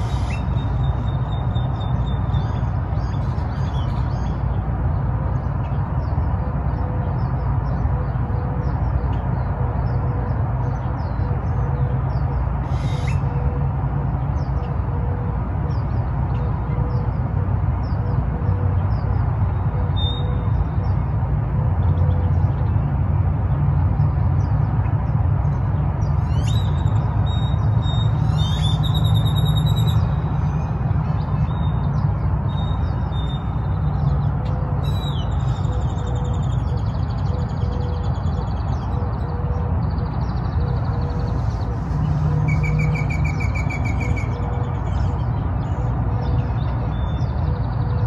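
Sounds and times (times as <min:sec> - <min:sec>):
wild birds chirping and trilling: 0:00.0 - 0:48.0.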